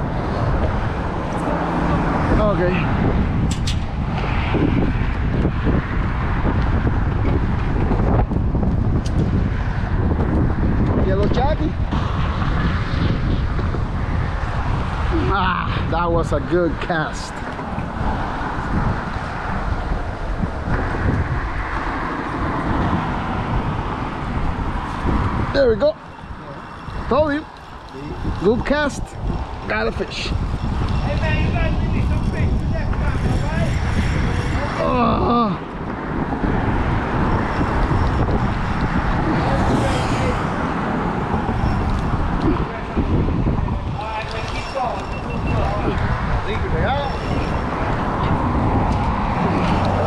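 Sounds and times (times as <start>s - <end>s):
low rumble of road traffic: 0.0s - 50.0s
wind buffeting microphone: 0.0s - 50.0s.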